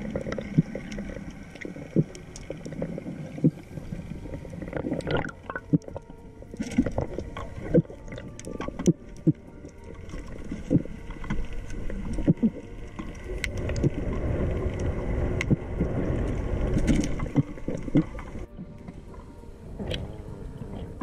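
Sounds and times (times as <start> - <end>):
water rushing underwater: 0.0 - 21.0.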